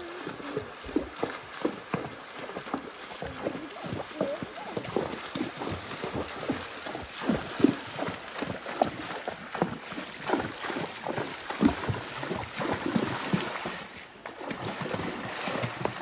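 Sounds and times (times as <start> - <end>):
hooves splashing through water: 0.0 - 16.0
rushing creek water: 0.0 - 16.0.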